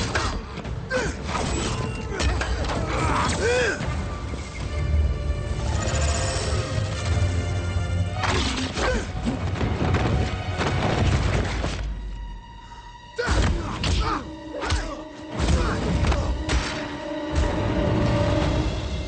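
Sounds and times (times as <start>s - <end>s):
action film score music: 0.0s - 19.0s.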